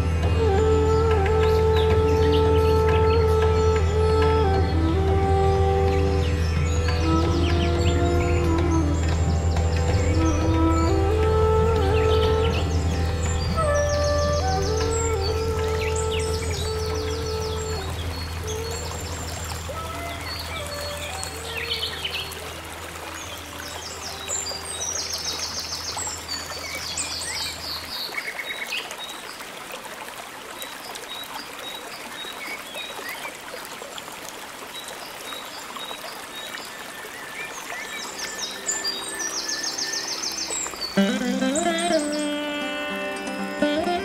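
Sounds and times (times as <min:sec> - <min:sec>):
birds chirping trills: 0:00.0 - 0:29.2, 0:35.3 - 0:44.0
trickle of running water: 0:00.0 - 0:44.0.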